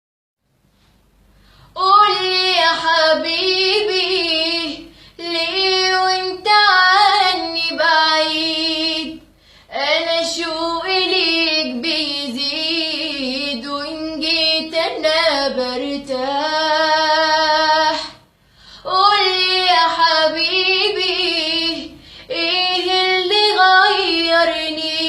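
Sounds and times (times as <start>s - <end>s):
girl singing unaccompanied: 1.7s - 18.2s, 18.8s - 25.0s.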